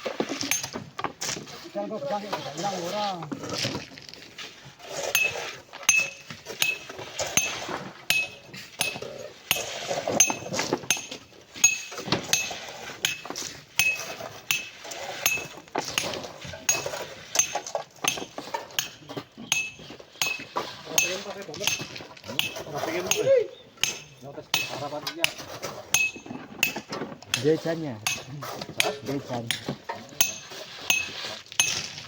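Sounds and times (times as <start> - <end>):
scraping and crumbling sand: 0.0 - 23.6, 27.3 - 32.0
metal tool clinking on rock: 0.4 - 0.9, 5.1 - 32.0.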